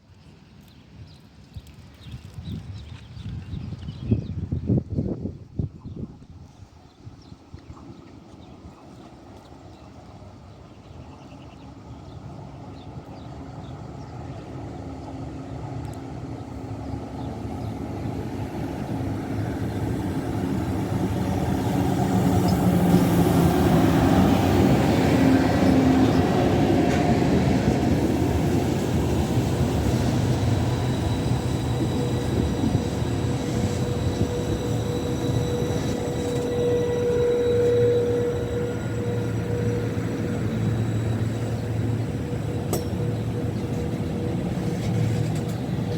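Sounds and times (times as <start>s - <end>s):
train running through station: 2.2s - 45.9s
thin whining train tones: 4.4s - 45.9s.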